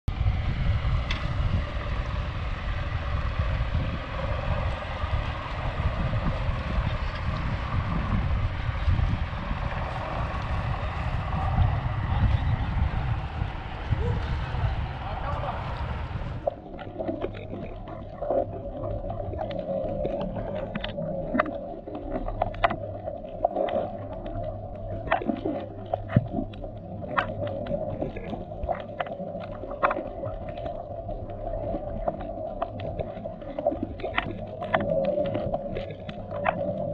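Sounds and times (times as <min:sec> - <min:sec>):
underwater low hum: 0:00.0 - 0:36.9
open sea wash: 0:00.1 - 0:36.9
wind buffeting microphone: 0:00.1 - 0:36.9
underwater clicks and crackles: 0:00.7 - 0:36.9.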